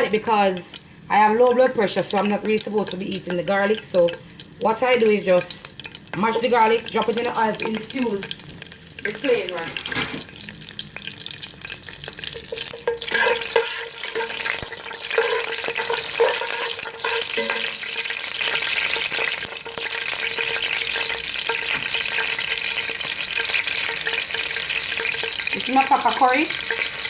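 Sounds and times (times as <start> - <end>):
oil sizzling and crackling: 0.0 - 27.0.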